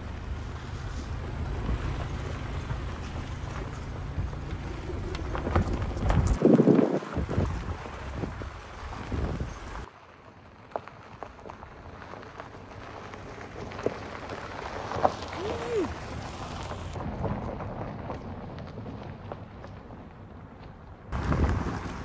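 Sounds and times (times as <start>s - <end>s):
tyres crunching over gravel: 0.0s - 22.0s
loose stones popping under tyres: 0.1s - 22.0s.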